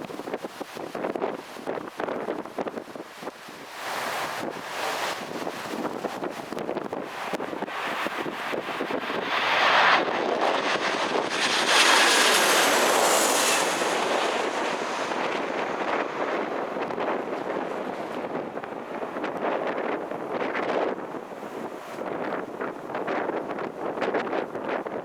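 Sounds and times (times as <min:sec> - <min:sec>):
airliner landing: 0:00.0 - 0:24.6
wind buffeting microphone: 0:00.0 - 0:25.0.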